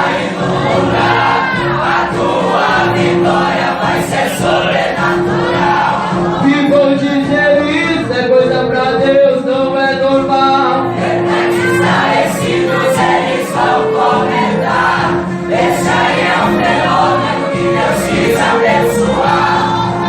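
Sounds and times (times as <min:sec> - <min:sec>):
choir singing a hymn: 0:00.0 - 0:07.5, 0:10.7 - 0:20.0
instrumental accompaniment: 0:00.0 - 0:20.0.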